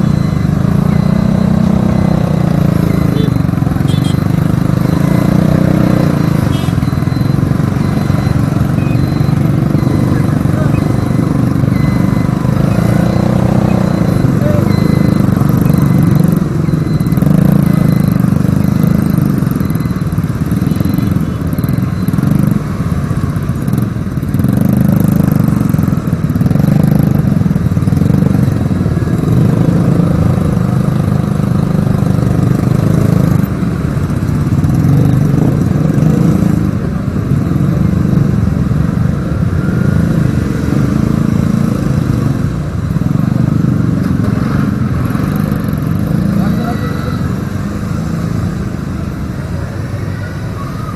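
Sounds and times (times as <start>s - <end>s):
motorcycle engine running: 0.0s - 50.6s.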